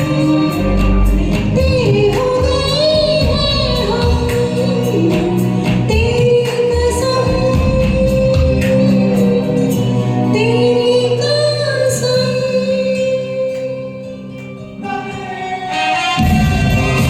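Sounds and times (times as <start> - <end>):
backing track music: 0.0 - 17.0
person singing karaoke: 0.0 - 17.0.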